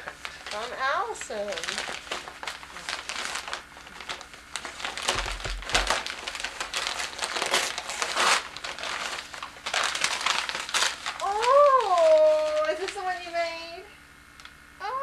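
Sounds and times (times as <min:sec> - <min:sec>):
wrapping paper crinkling: 0:00.0 - 0:13.7.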